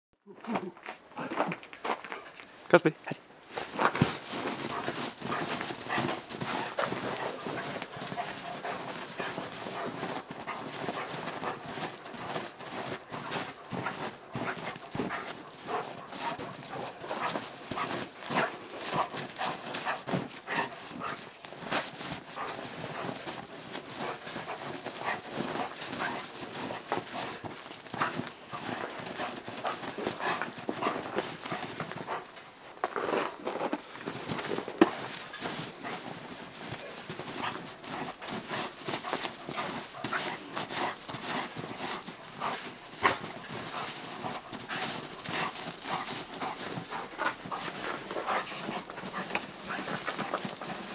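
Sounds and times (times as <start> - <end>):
dog crunching snow: 3.5 - 50.9
dog panting: 3.6 - 32.4, 34.1 - 50.9.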